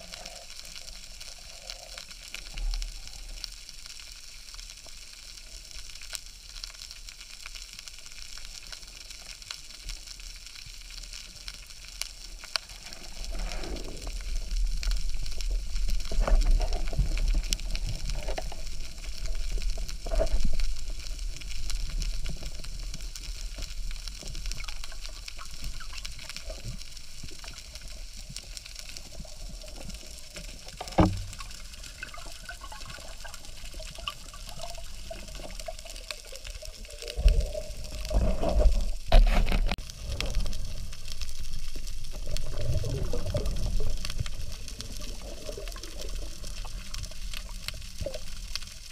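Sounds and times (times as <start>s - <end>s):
underwater crackle and hiss: 0.0s - 48.9s.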